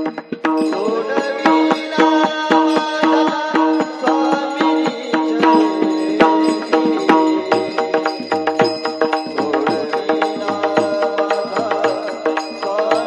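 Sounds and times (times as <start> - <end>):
hand drum strokes: 0.0 - 13.0
sliding vocal melody: 0.0 - 13.0.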